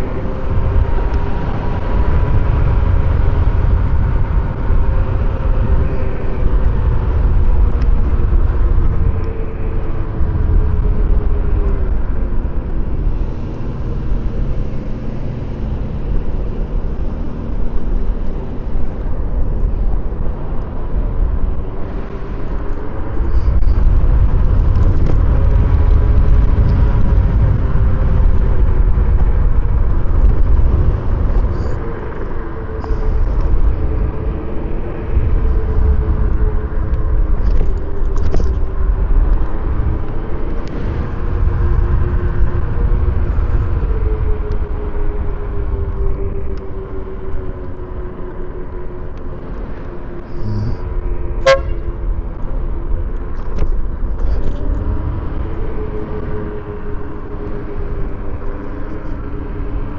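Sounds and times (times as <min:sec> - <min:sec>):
electric scooter motor whine: 0:00.0 - 0:59.9
wind rumble on microphone: 0:00.0 - 0:59.9.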